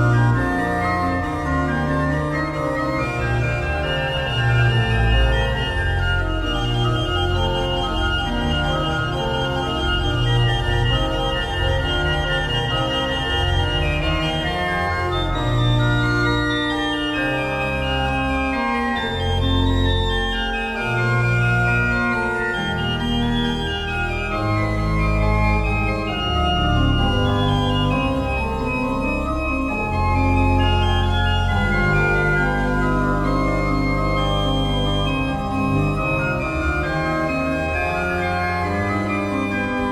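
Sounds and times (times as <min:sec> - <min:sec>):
low organ bass line: 0:00.0 - 0:39.9
organ chords: 0:00.0 - 0:39.9.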